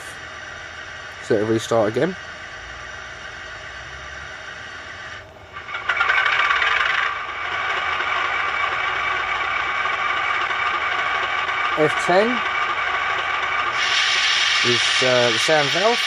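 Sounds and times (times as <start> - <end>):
diesel engine sound starting and idling: 0.0 - 16.0.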